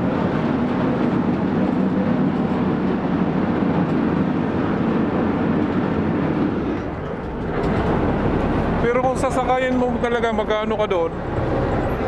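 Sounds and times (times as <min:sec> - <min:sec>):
boat engine rumbling: 0:00.0 - 0:12.0
wind: 0:00.0 - 0:12.0.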